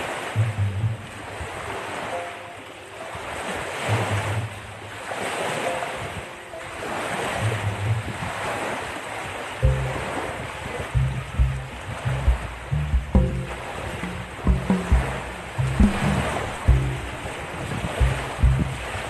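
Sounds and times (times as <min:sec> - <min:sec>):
lake waves washing in: 0:00.0 - 0:19.0
wind buffeting microphone: 0:00.3 - 0:02.1, 0:03.1 - 0:19.0.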